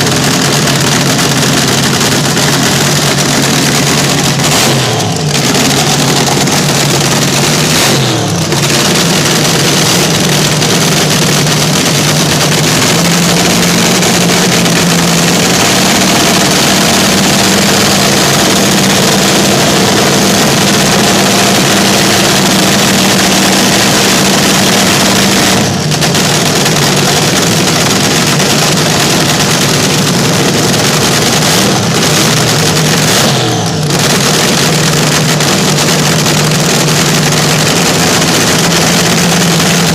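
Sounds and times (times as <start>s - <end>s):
dragster engines revving loudly: 0.0s - 39.9s.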